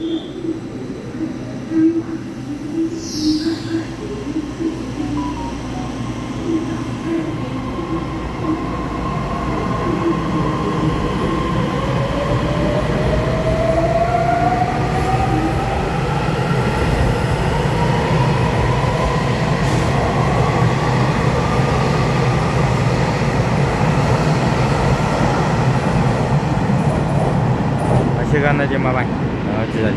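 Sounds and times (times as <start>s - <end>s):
rumble of wheels on rail: 0.0s - 29.9s.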